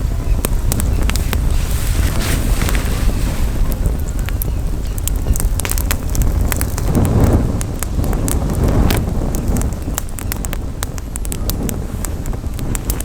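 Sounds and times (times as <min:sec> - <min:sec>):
campfire crackling and popping: 0:00.0 - 0:13.0
wind rumble on microphone: 0:00.0 - 0:13.0.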